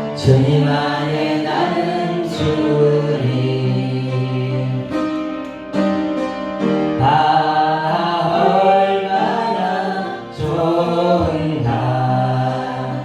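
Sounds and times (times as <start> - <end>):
keyboard playing held chords: 0.0 - 13.0.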